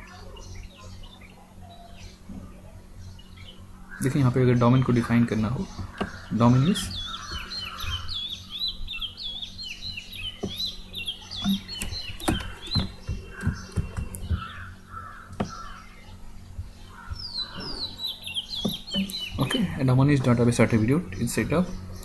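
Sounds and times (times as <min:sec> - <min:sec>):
harsh bird calls: 0:00.0 - 0:22.0
small birds chirping: 0:00.0 - 0:22.0.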